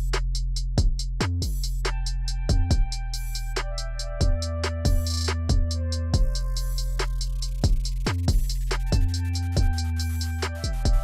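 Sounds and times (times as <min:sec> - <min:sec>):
deep kick drum: 0:00.0 - 0:03.1, 0:04.1 - 0:11.0
hi-hat ticks: 0:00.0 - 0:11.0
held bass and synth tones: 0:01.9 - 0:11.0.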